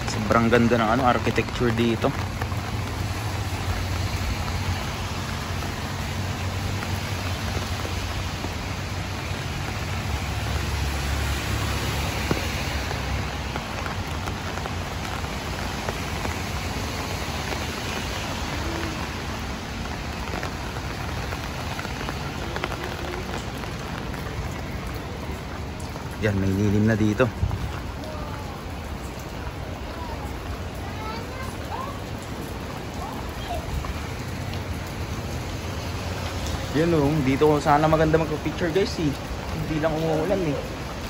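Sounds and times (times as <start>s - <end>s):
rain splashing on hard ground: 0.0s - 41.0s.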